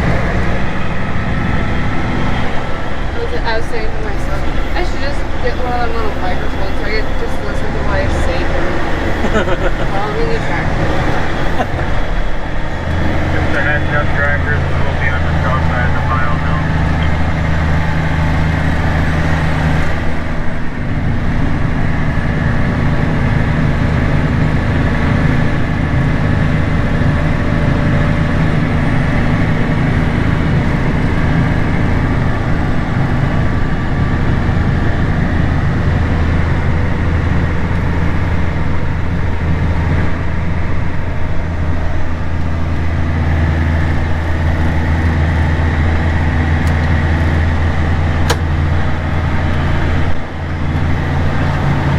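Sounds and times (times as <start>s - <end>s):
tractor engine droning: 0.0s - 51.9s.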